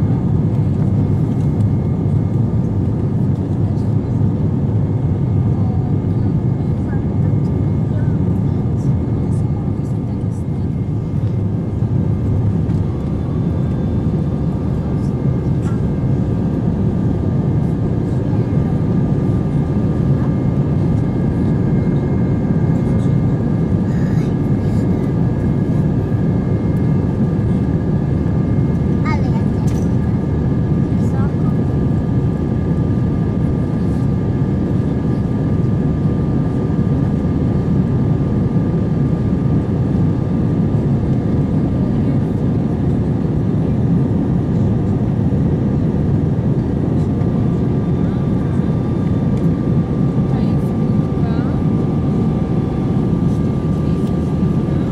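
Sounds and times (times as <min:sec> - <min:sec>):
aircraft cabin rumble: 0:00.0 - 0:54.9
high engine whine: 0:00.0 - 0:54.9.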